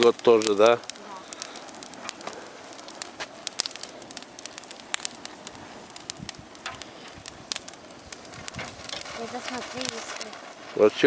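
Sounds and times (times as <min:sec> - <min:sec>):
bonfire crackling and popping: 0:00.0 - 0:11.0
low hiss of burning: 0:00.0 - 0:11.0.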